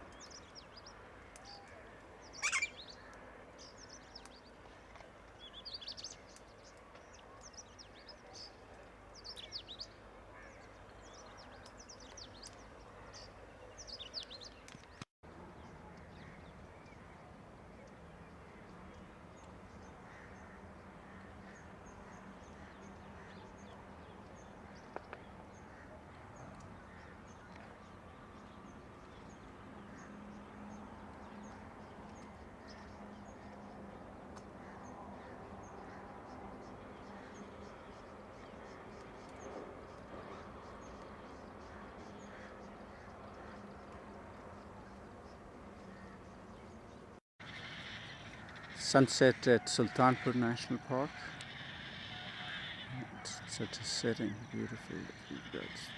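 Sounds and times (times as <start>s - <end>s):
birds chirping: 0.0s - 15.0s, 15.6s - 55.9s.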